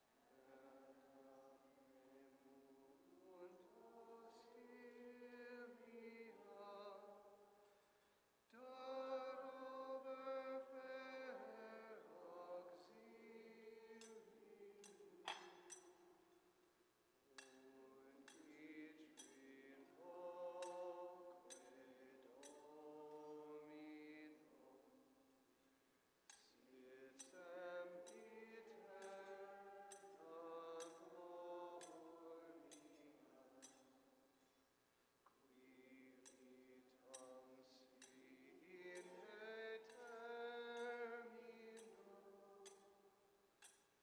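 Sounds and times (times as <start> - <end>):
slow sung chant: 0.0 - 34.6, 35.2 - 44.0.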